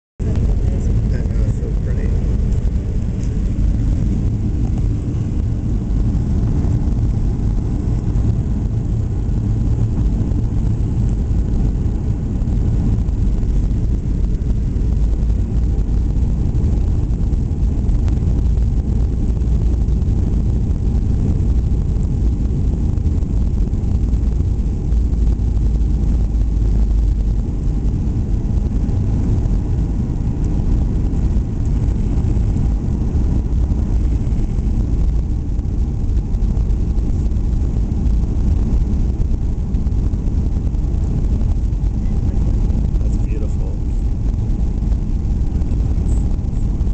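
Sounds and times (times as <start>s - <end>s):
airliner cabin roar: 0.2s - 46.9s.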